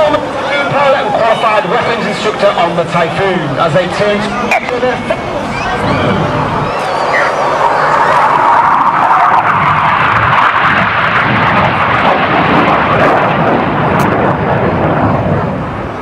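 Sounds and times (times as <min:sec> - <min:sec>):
jet flying past: 0:00.0 - 0:16.0.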